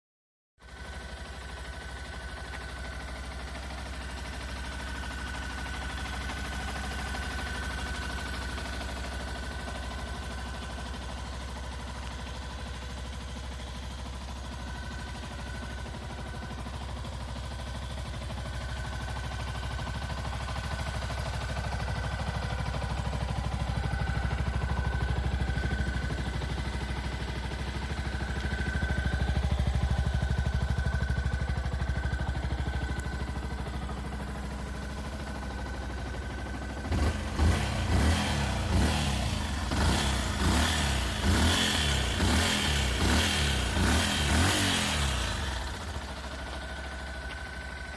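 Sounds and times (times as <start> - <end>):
motorcycle engine idling and revving: 0.6 - 47.9.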